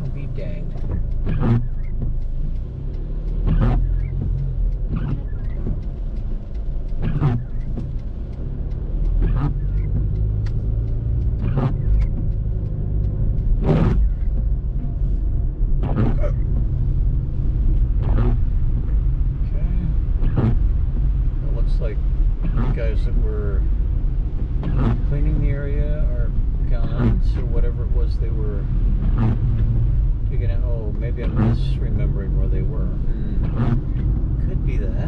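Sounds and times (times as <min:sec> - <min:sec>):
engine and tyre rumble: 0:00.0 - 0:35.0
windshield wiper swishing: 0:00.0 - 0:35.0.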